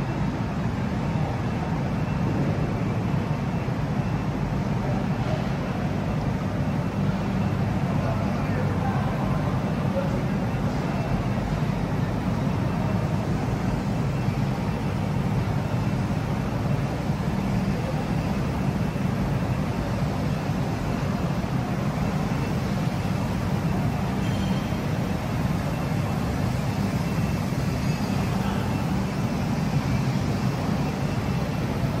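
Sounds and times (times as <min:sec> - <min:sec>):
factory hall low rumble: 0:00.0 - 0:32.0.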